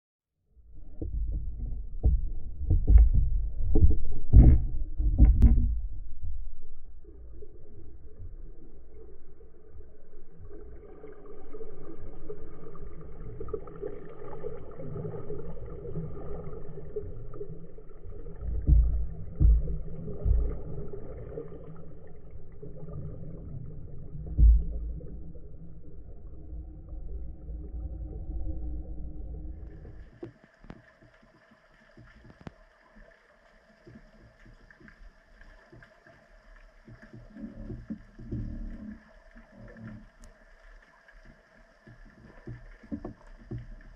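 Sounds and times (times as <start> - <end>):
low underwater rumble: 0.4 - 43.9.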